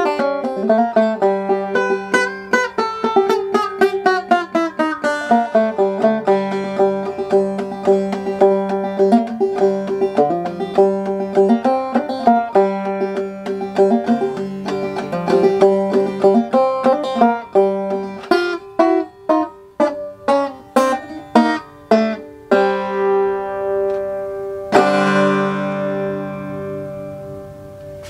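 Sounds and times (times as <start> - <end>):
banjo playing: 0.0 - 28.0.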